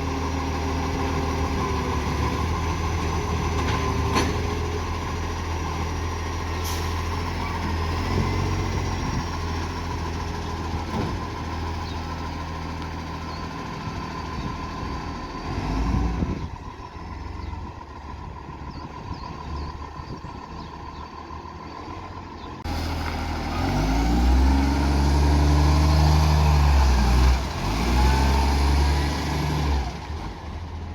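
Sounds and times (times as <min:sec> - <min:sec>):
diesel truck engine revving: 0:00.0 - 0:30.9.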